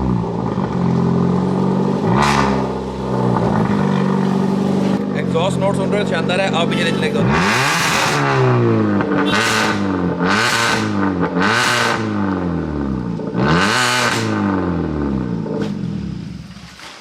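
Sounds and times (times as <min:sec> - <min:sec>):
car engine revving: 0:00.0 - 0:16.5.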